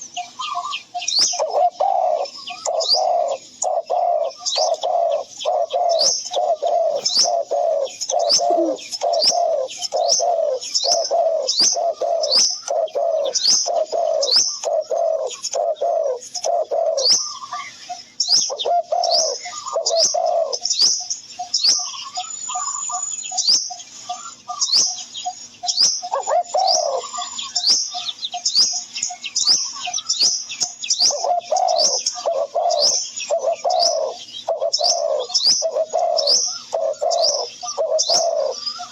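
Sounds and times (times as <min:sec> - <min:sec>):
bird high chirps: 0:00.0 - 0:38.9
bird low calls: 0:00.0 - 0:38.9.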